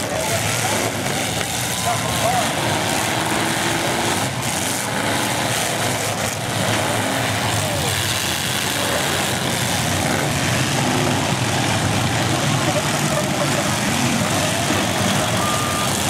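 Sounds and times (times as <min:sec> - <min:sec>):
car engines revving: 0:00.0 - 0:16.0
crowd voices: 0:00.0 - 0:16.0.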